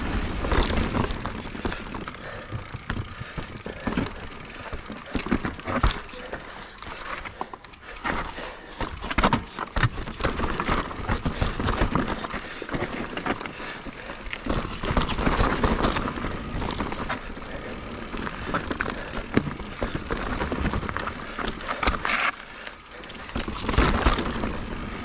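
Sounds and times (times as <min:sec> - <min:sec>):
bike knocking and rattling: 0:00.0 - 0:25.0
bike tyres crunching over rock: 0:00.0 - 0:25.0.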